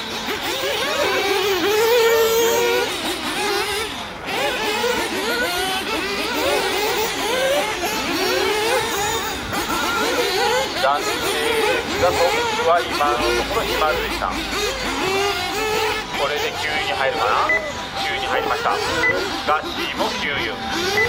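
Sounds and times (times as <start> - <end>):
rc car engines revving: 0.0 - 21.0.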